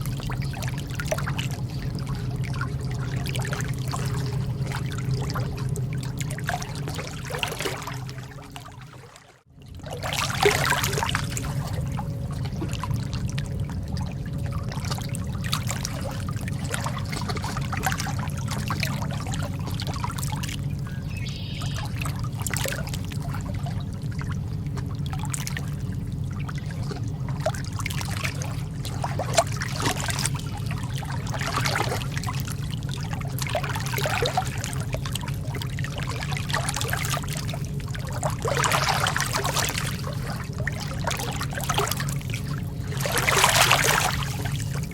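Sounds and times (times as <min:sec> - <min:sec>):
lake water lapping: 0:00.0 - 0:44.9
low rumble: 0:00.0 - 0:44.9.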